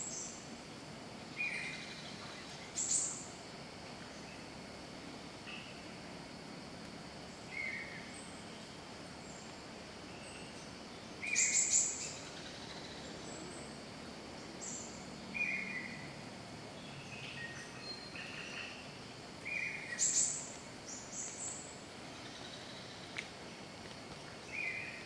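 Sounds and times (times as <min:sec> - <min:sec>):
background hiss: 0:00.0 - 0:25.0.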